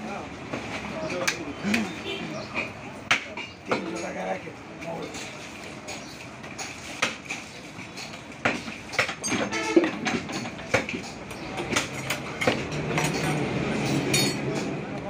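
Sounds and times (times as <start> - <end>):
market noise: 0.0 - 15.0.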